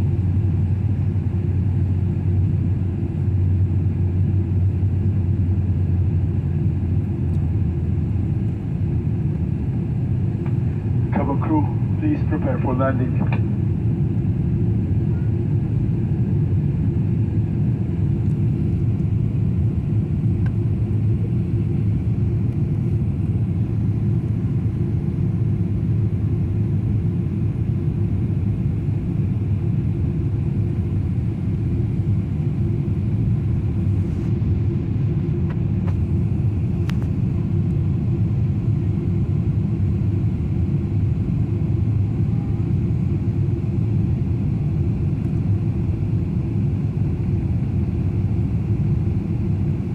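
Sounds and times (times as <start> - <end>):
airplane engines rumbling: 0.0 - 49.9.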